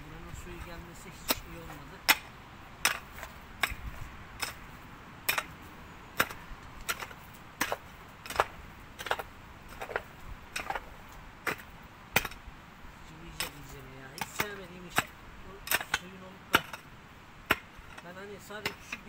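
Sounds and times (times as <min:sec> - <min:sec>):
metal tool striking soil: 0:00.5 - 0:05.6, 0:06.2 - 0:12.4, 0:13.2 - 0:19.0.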